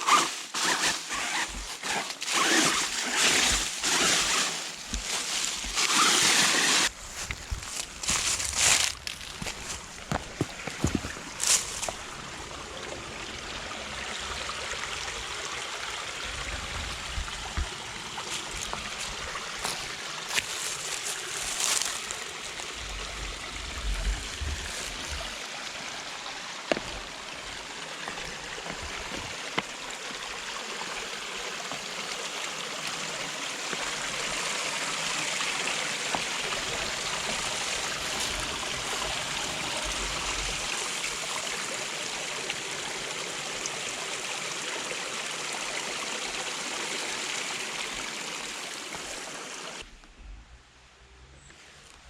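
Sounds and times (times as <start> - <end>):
stream flowing over rocks: 0.0 - 49.9.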